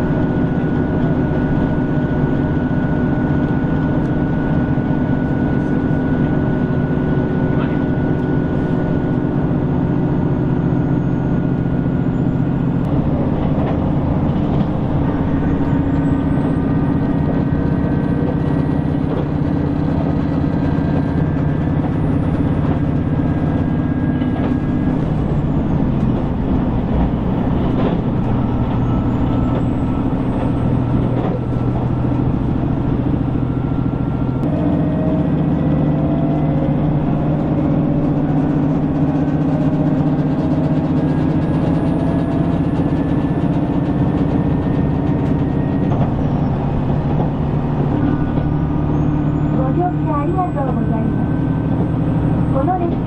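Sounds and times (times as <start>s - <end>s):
railcar diesel engine drone: 0.0s - 53.0s.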